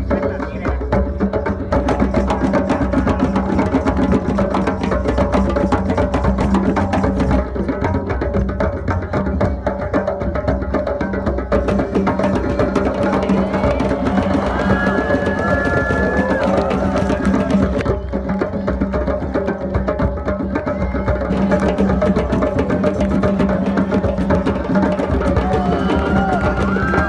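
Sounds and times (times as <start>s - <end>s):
fast hand drumming: 0.0s - 27.0s.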